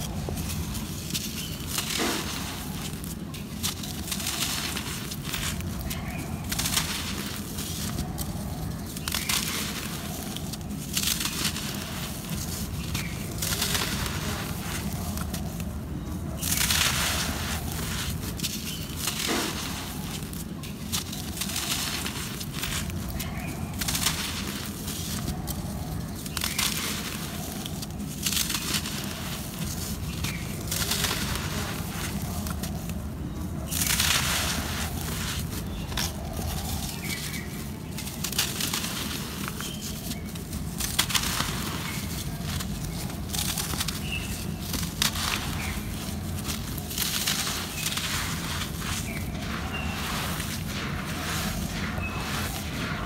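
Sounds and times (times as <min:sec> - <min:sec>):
dirt crumbling in hands: 0:00.0 - 0:53.0
steady low rumble: 0:00.0 - 0:53.0.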